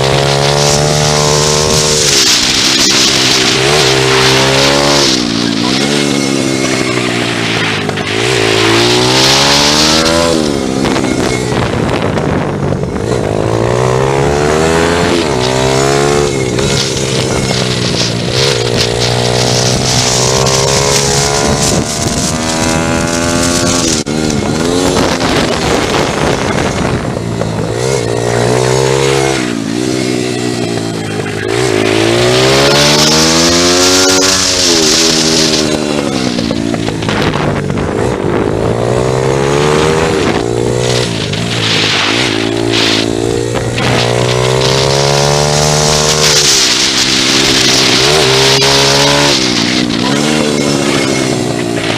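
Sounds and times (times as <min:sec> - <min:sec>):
pit bike engine revving: 0:00.0 - 0:51.9.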